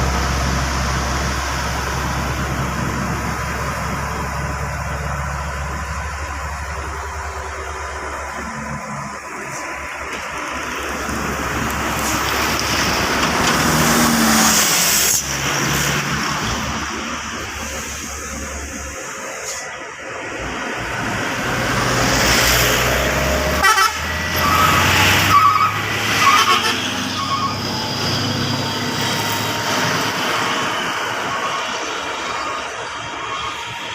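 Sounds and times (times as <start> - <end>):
heavy trucks passing: 0.0 - 33.9.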